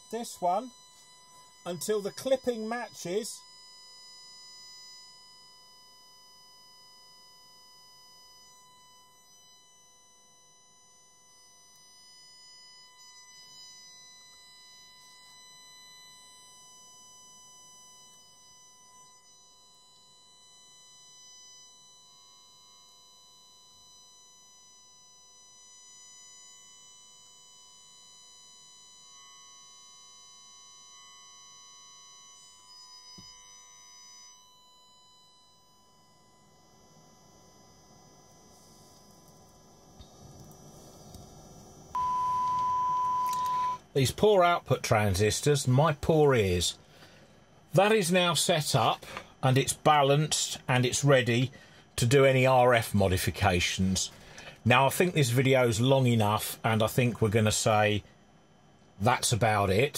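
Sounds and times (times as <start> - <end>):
faint sine-wave test tone from radio: 0.0 - 59.9.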